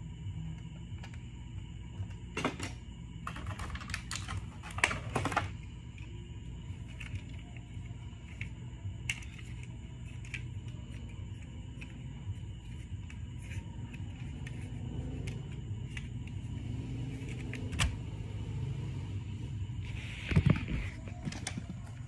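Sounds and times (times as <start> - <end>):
steady faint hum: 0.0 - 22.0.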